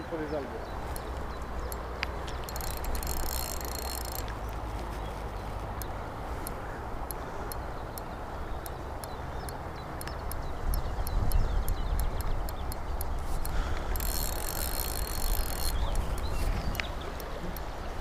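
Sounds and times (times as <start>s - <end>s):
sharp light ticks: 0.8s - 4.9s, 5.6s - 17.7s.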